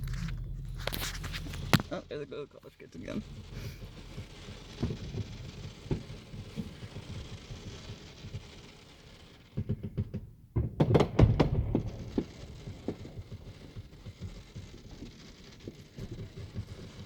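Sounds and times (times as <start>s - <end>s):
fireworks popping and banging: 0.0s - 17.0s.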